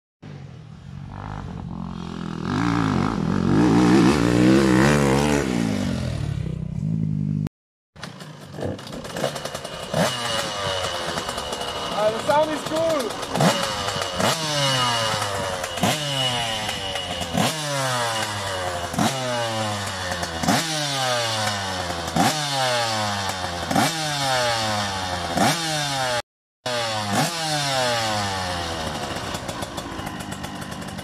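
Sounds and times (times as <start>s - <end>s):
motocross engine revving: 1.0s - 31.0s.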